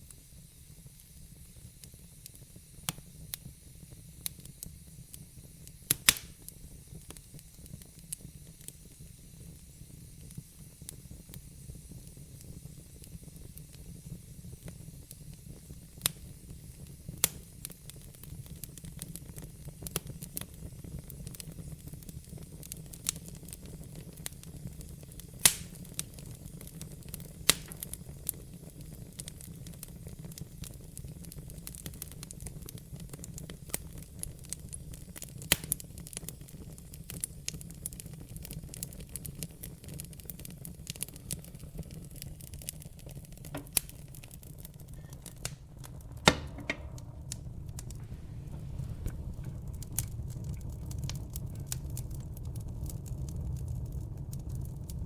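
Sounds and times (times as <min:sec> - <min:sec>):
fire crackles and pops: 0:00.0 - 0:55.0
fire rumbling and hissing: 0:00.0 - 0:55.0.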